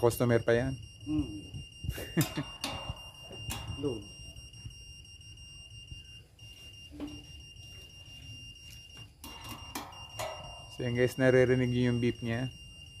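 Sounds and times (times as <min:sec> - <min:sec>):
high-pitched meter beep tone: 0:00.0 - 0:13.0.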